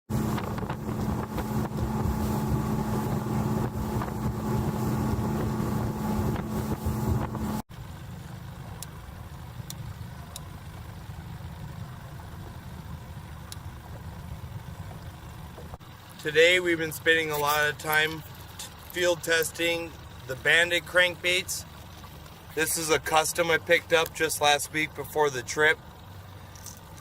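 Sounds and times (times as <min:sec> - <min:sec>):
low engine rumble: 0:00.1 - 0:27.0
motorboat engine running: 0:00.1 - 0:27.0
water noise: 0:00.1 - 0:27.0
wind: 0:00.1 - 0:27.0.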